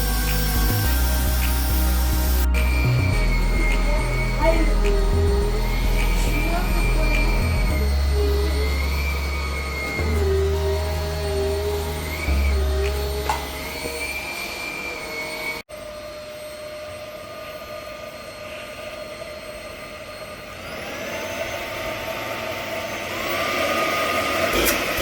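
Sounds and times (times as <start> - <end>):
stick vacuum motor whine: 0.0 - 25.0.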